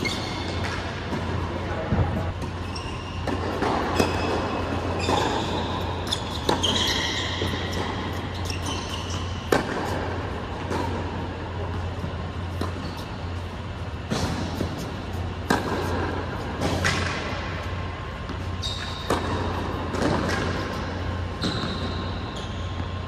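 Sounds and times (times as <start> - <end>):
tennis balls struck by rackets: 0.0 - 2.6, 3.2 - 23.0
shoes squeaking on court: 0.0 - 23.0
steady low hum: 0.0 - 23.0.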